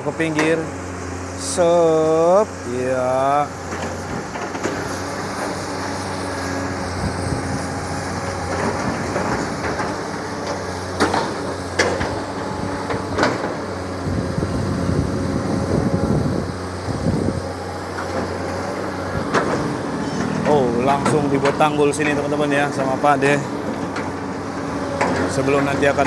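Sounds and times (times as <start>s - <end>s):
excavator diesel engine running: 0.0s - 26.0s
heavy rumbling: 0.0s - 26.0s.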